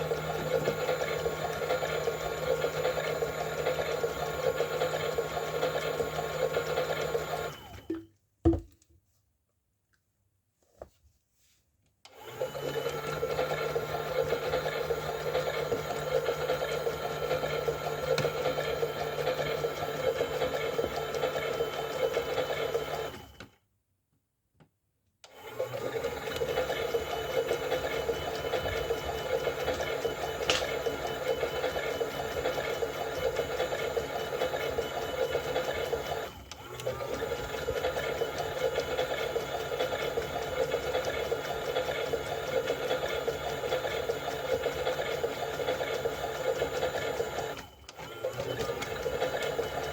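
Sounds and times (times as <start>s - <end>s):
toy washing machine motor humming: 0.0s - 8.0s, 12.1s - 23.4s, 25.3s - 49.9s.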